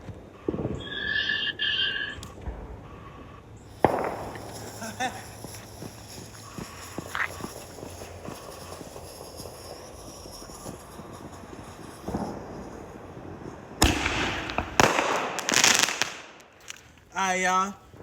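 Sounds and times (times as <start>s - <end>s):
crackling hiss: 0.0s - 18.0s
fireworks popping and banging: 0.0s - 18.0s.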